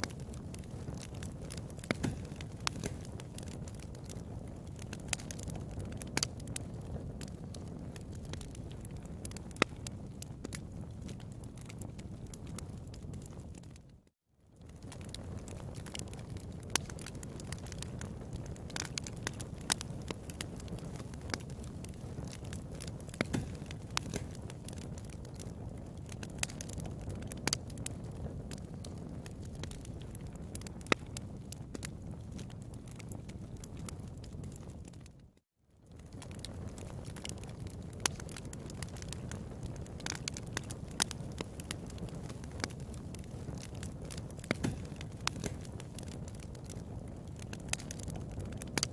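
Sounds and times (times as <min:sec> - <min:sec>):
fire crackling in fireplace: 0:00.0 - 0:48.9.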